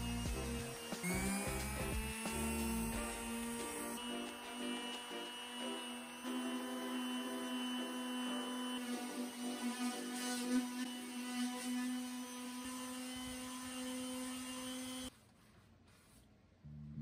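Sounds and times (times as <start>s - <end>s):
finishing sander humming: 0.0s - 15.1s.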